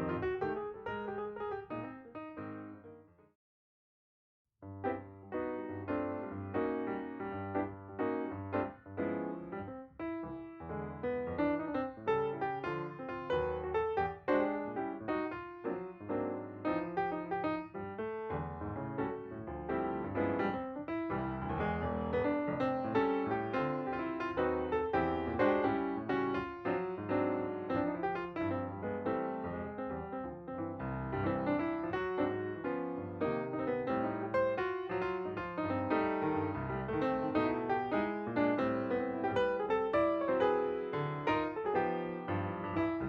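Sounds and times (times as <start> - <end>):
piano music: 0.0 - 3.2, 4.7 - 43.0.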